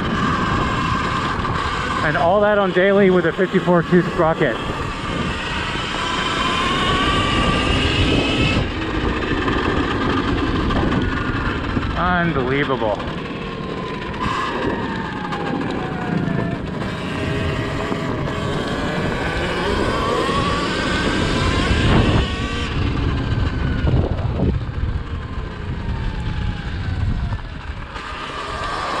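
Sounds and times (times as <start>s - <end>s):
electric motorbike motor whining: 0.0s - 29.0s.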